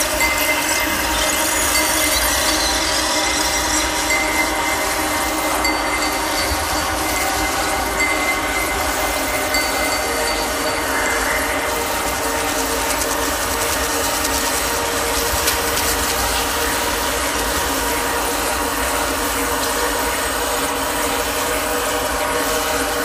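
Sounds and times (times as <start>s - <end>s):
droning wall of noise: 0.0s - 23.0s.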